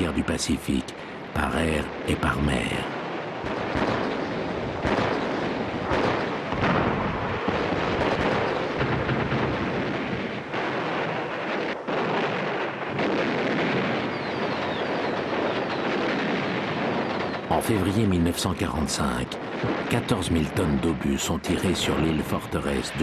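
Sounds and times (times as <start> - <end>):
heavy naval guns firing: 1.2 - 18.1, 19.4 - 23.0.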